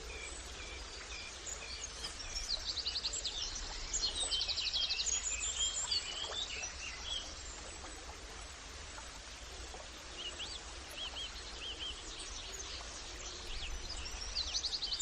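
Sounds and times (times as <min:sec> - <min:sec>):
steady outdoor noise: 0:00.0 - 0:15.0.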